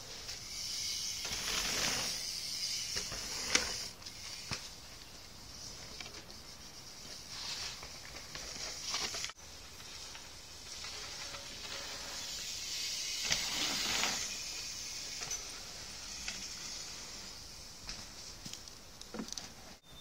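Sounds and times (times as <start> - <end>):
bike tyres rolling over dirt: 0.0 - 19.7
steady high hiss: 0.0 - 20.0.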